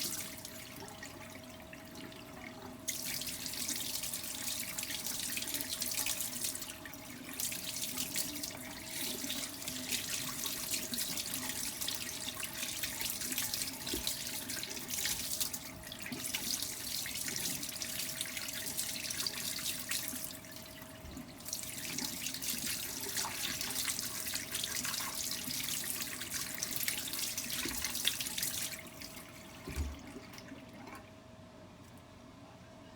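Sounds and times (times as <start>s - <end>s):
tap water running into sink: 0.0s - 31.0s
faint steady hum: 0.0s - 32.9s.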